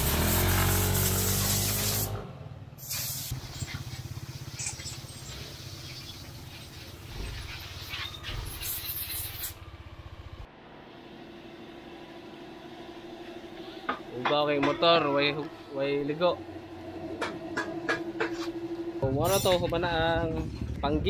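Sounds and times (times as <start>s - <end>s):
scooter engine revving: 0.0s - 10.6s, 11.2s - 19.0s.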